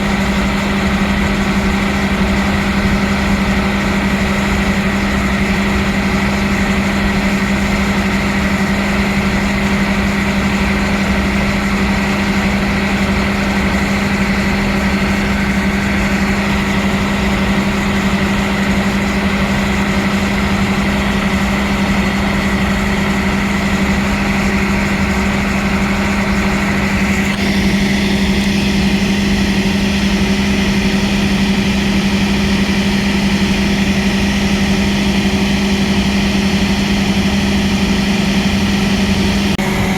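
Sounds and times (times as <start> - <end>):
train engine machinery hum: 0.0 - 39.9.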